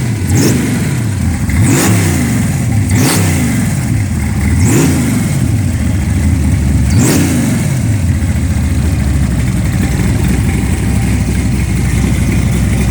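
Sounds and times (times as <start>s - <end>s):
truck engine idling and revving: 0.0s - 12.9s.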